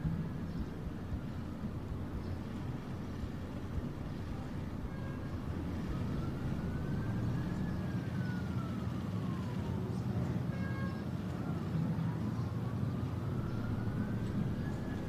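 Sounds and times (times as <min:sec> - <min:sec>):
low background rumble: 0:00.0 - 0:10.5, 0:11.2 - 0:15.0
faint siren wail: 0:00.0 - 0:15.0.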